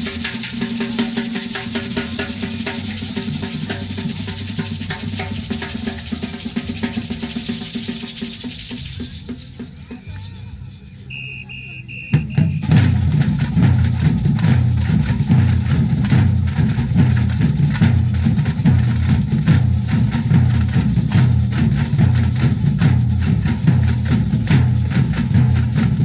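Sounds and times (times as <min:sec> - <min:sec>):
deep low drum beats: 0:00.0 - 0:10.2, 0:12.1 - 0:26.0
large drums playing fast rhythm: 0:00.0 - 0:11.1, 0:11.9 - 0:26.0.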